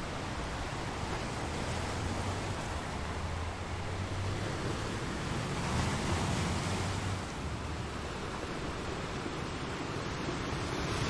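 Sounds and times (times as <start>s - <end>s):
waves breaking: 0.0s - 11.0s
wind: 0.0s - 11.0s.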